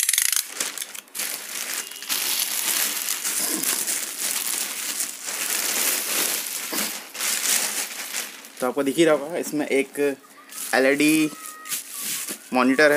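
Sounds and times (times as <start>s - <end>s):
plastic bag and bubble wrap crinkling: 0.0s - 12.9s.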